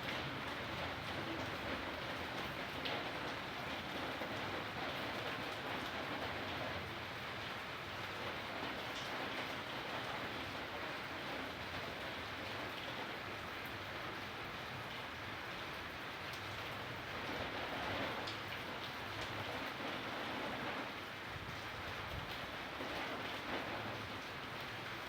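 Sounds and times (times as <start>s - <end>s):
rain pattering on surfaces: 0.0s - 25.0s.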